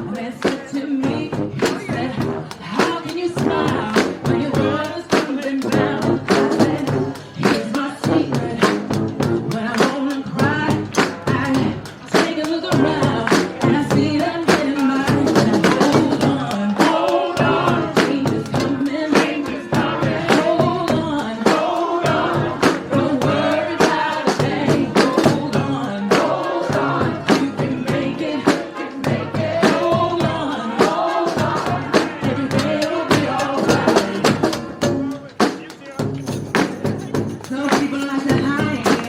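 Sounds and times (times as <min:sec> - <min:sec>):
brass band playing: 0:00.0 - 0:39.0
drum beat: 0:00.0 - 0:39.0.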